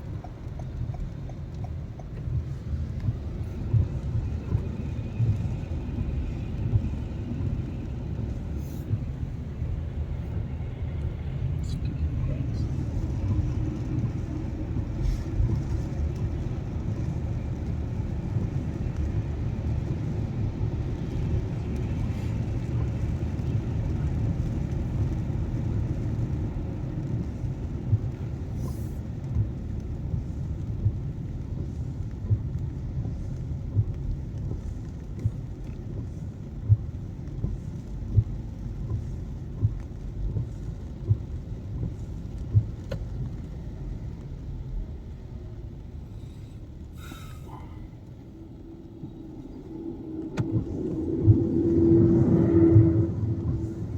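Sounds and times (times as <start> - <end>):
car cabin rumble: 0.0 - 53.9.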